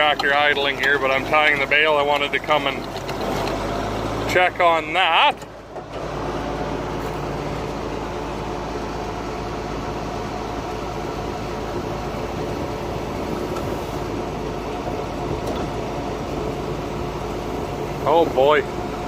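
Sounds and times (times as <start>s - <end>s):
round baler running: 0.0s - 19.0s
tractor diesel engine idling: 0.0s - 19.0s.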